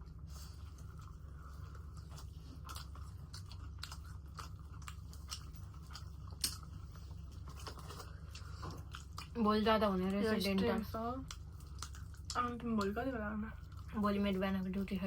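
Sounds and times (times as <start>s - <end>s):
chewing with crisp crunches: 0.0s - 15.0s
low steady hum: 0.0s - 15.0s.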